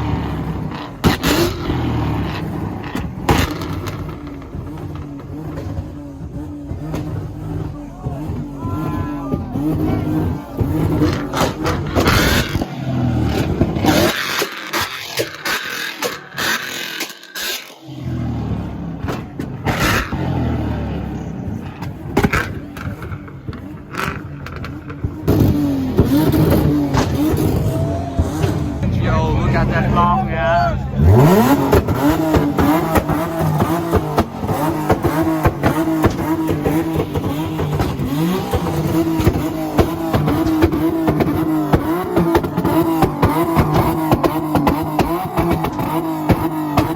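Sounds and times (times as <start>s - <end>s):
exhaust pops and bangs: 0.0s - 17.6s, 18.9s - 28.9s, 31.1s - 46.9s
car engine revving: 0.0s - 46.9s.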